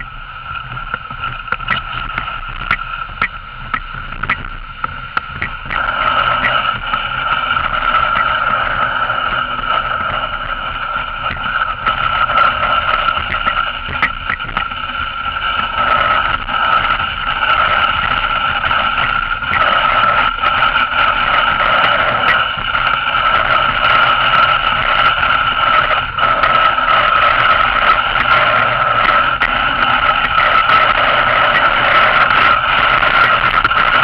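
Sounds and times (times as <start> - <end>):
sled runners whining on snow: 0.0 - 34.0
sled knocking and rattling: 0.5 - 34.0.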